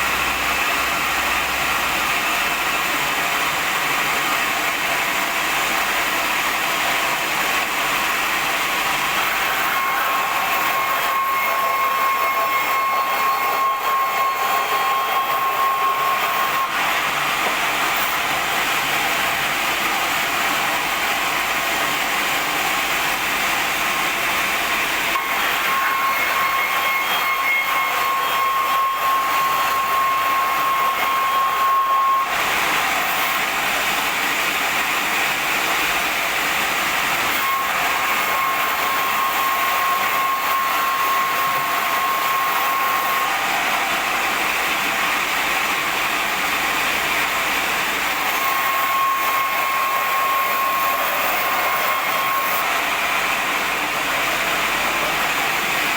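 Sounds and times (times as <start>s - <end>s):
band saw sawing boards: 2.1s - 55.9s.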